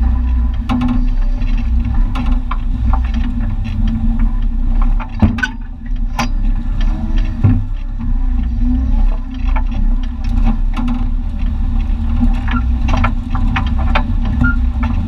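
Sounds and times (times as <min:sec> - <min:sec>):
knocks and rattles: 0:00.0 - 0:15.0
truck engine rumble: 0:00.0 - 0:15.0.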